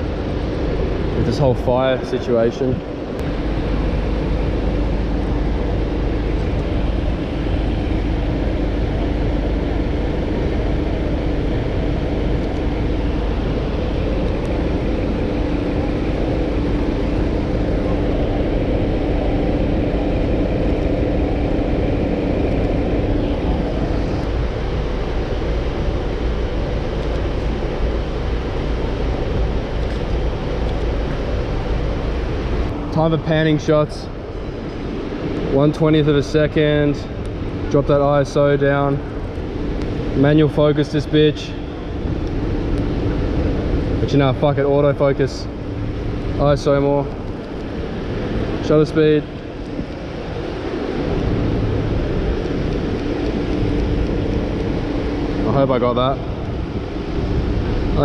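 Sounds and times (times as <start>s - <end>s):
city street traffic rumble: 0.0s - 58.0s
steady drone: 0.0s - 58.0s.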